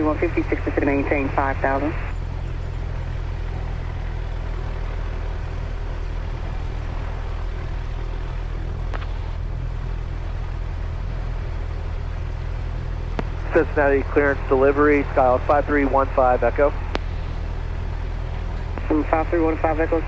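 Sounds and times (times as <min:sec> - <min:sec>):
aircraft engine idling: 0:00.0 - 0:20.0.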